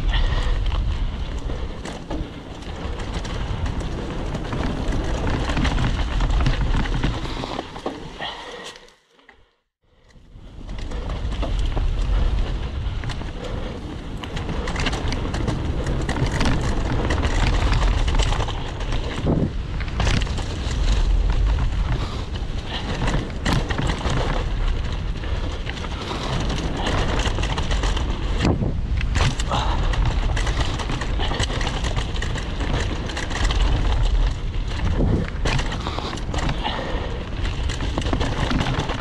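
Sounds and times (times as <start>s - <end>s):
wind rumble on microphone: 0.0s - 8.2s, 9.9s - 39.0s
tyres rolling over dirt and leaves: 0.0s - 8.4s, 10.3s - 39.0s
bike knocking and rattling: 0.0s - 8.8s, 10.0s - 39.0s.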